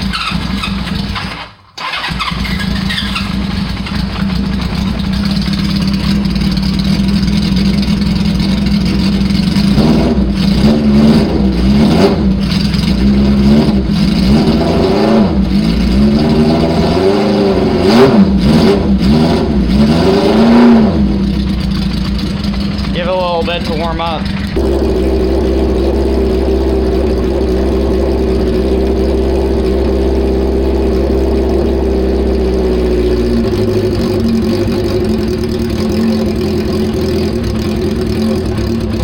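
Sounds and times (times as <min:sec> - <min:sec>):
motorcycle engine starting and revving: 0:00.0 - 0:39.0.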